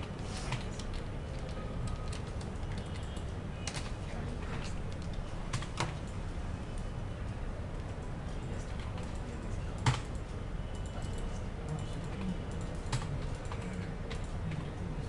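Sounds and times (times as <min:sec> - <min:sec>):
low background hum: 0:00.0 - 0:15.0
computer keyboard keys clicking: 0:00.5 - 0:06.9, 0:07.8 - 0:15.0.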